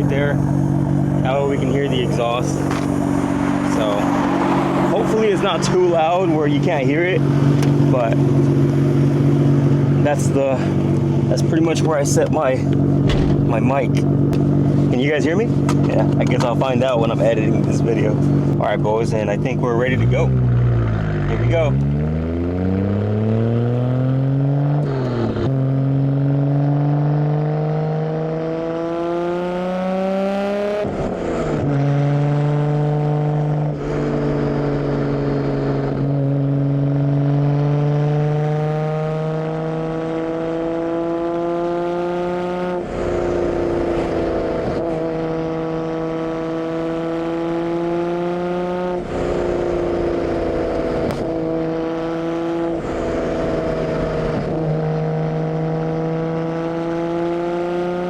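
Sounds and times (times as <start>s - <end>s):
car exhaust accelerating through gears: 0.0s - 58.0s.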